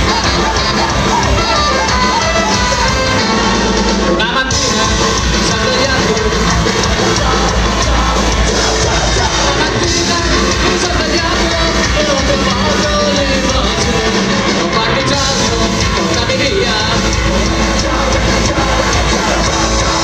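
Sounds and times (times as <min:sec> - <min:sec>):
person singing: 0:00.0 - 0:20.0
ska-punk band playing live: 0:00.0 - 0:20.0.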